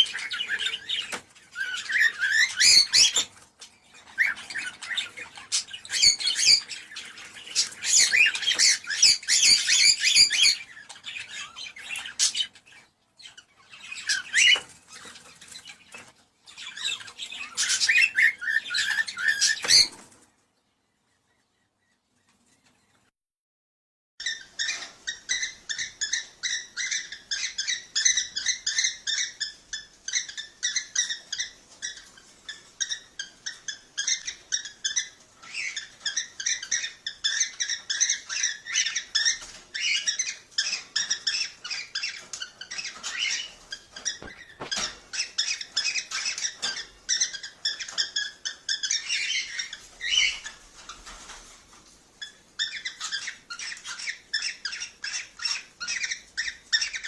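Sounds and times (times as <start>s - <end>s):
cockatiels chirping: 0.0s - 20.2s, 24.2s - 57.0s.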